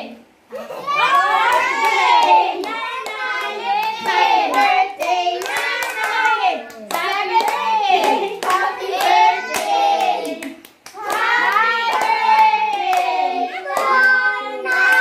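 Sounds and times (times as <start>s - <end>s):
group of voices singing: 1.0s - 15.0s
hands clapping: 1.1s - 15.0s.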